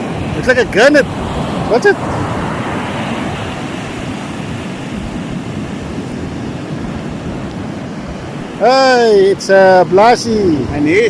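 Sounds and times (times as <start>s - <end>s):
surf washing on beach: 0.0s - 11.0s
wind on microphone: 0.0s - 11.0s.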